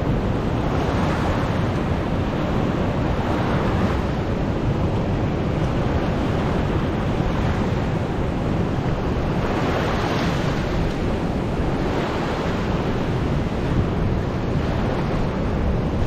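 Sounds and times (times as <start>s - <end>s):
ocean surf breaking: 0.0s - 16.0s
wind rumbling on microphone: 0.0s - 16.0s.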